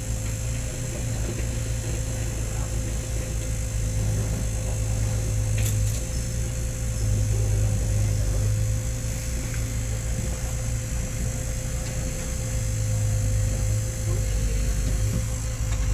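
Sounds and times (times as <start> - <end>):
diesel excavator engine running: 0.0 - 15.9
thin steady whine: 0.0 - 15.9.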